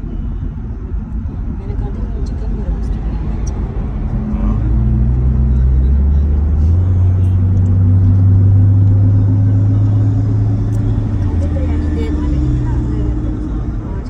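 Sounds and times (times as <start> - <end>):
road noise: 0.0 - 14.0
van engine drone: 0.0 - 14.0.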